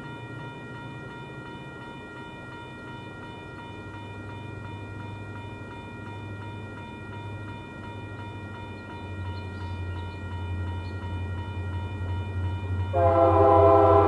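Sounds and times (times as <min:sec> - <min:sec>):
diesel locomotive humming: 0:00.0 - 0:14.0
railroad crossing bell ringing: 0:00.0 - 0:14.0.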